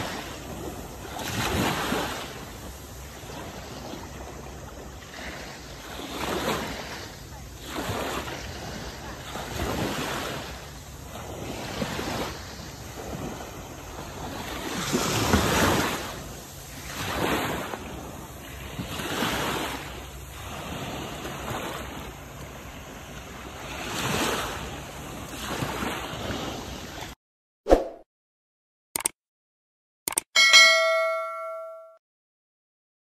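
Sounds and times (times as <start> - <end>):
small waves washing on beach: 0.0 - 27.2.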